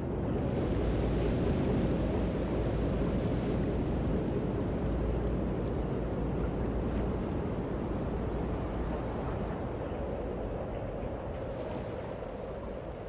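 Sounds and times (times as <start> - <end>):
sea rushing: 0.0 - 13.0
wind: 0.0 - 13.0.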